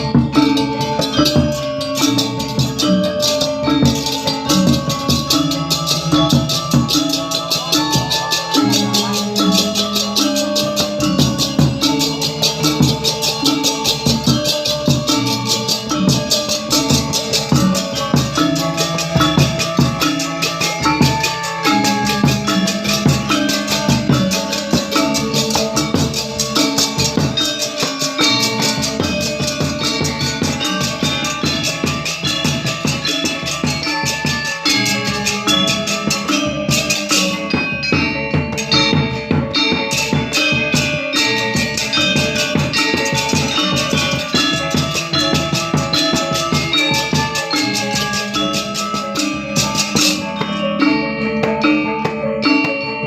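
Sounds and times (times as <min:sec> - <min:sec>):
drums: 0:00.0 - 0:53.0
gamelan ensemble playing: 0:00.0 - 0:53.0.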